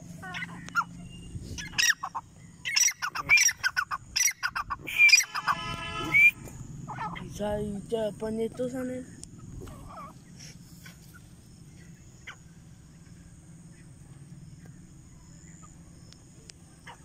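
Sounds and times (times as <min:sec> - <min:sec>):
francolin calls: 0:00.0 - 0:17.0
steady low hum: 0:00.0 - 0:17.0.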